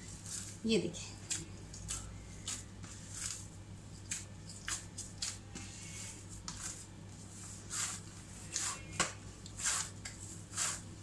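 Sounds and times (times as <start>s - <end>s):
dough squishing being kneaded: 0.0s - 11.0s
steady low hum: 0.0s - 11.0s.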